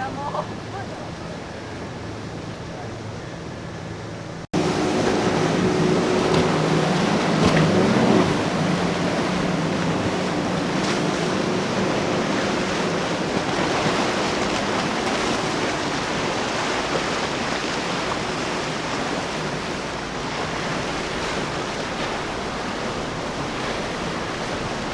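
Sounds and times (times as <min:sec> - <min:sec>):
boat engine drone: 0:00.0 - 0:24.9
surf and waves washing: 0:00.0 - 0:24.9
wind on microphone: 0:04.6 - 0:24.9.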